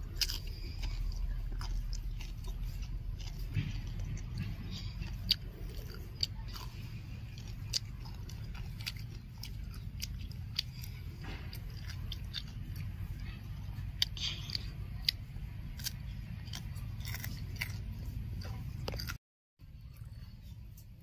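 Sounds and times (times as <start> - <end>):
crisp crunching bites: 0.0 - 19.2.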